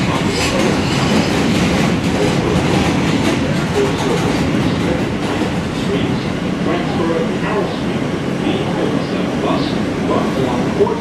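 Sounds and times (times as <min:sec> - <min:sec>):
subway train wheels rumbling: 0:00.0 - 0:11.0.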